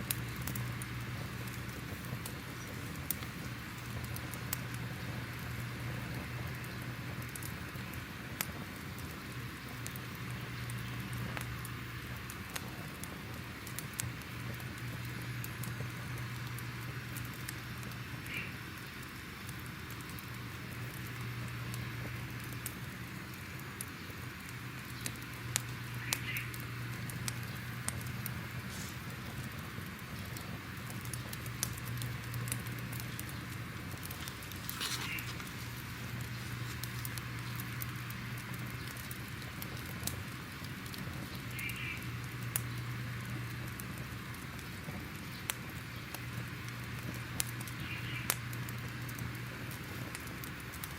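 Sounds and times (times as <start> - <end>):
fire popping and crackling: 0.0 - 50.9
fireplace low rumble: 0.0 - 50.9.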